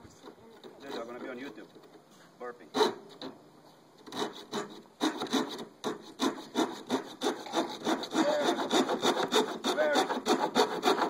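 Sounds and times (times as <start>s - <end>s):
hand saw cutting plywood: 0.0s - 1.6s, 2.7s - 3.4s, 4.0s - 11.0s.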